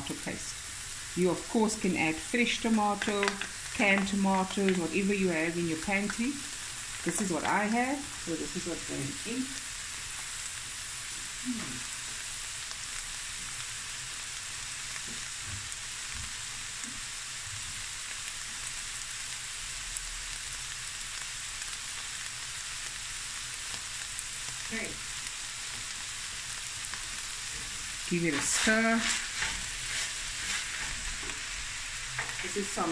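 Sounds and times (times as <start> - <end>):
meat sizzling in a frying pan: 0.0 - 32.9.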